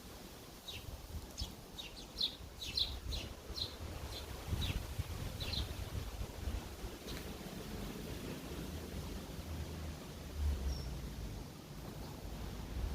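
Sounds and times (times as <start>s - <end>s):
sparrows chirping: 0.6s - 9.4s, 10.5s - 12.9s.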